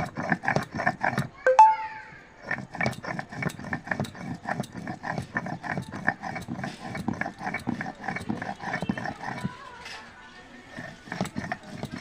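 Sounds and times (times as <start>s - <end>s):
grinding stone rasping: 0.0s - 1.4s, 2.4s - 12.0s.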